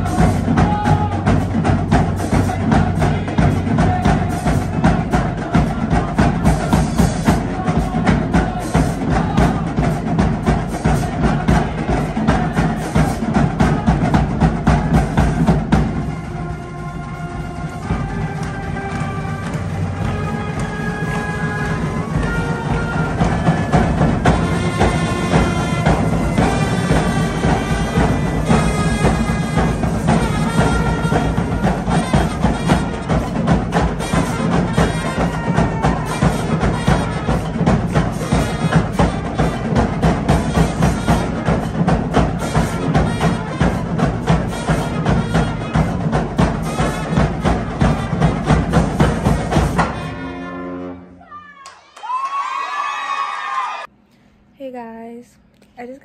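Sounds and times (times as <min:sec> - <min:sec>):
marching band playing: 0:00.0 - 0:51.2.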